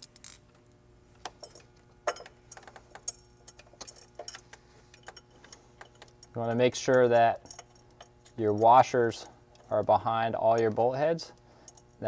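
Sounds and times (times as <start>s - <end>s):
metallic clicks of bolts and washers: 1.2s - 12.0s.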